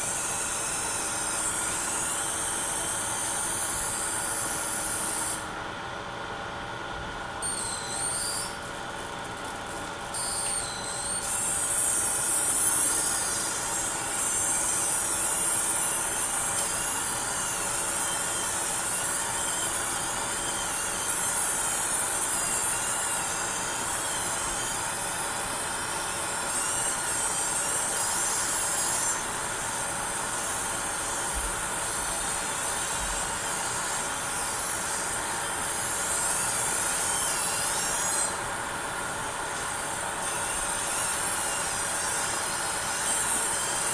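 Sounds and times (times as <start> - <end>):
high-pitched electrical coil whine: 0.0 - 5.6, 7.4 - 8.8, 9.6 - 43.9.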